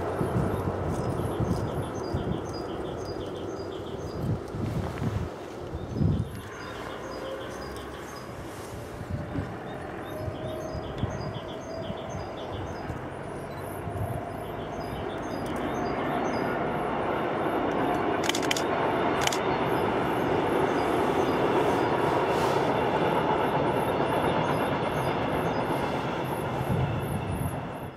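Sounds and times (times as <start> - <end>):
train running over viaduct: 0.0 - 27.9.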